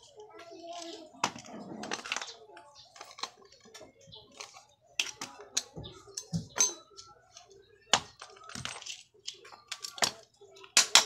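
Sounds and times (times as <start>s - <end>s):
parts and tools clicking and knocking: 0.0s - 11.0s.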